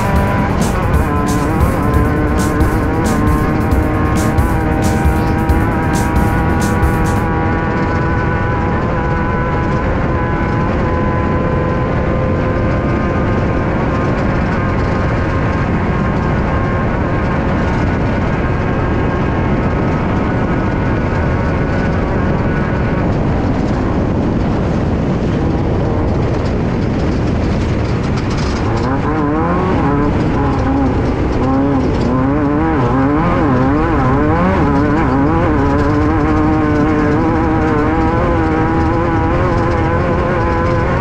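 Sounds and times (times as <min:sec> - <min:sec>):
race car engine running hard: 0:00.0 - 0:41.0
road and wind noise: 0:00.0 - 0:41.0.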